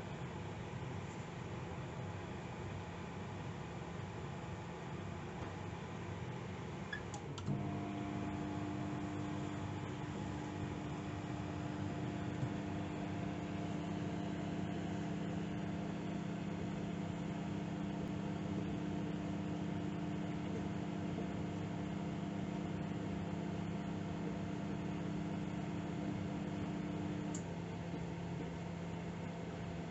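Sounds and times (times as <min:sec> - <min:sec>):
microwave oven humming: 0:00.0 - 0:29.9.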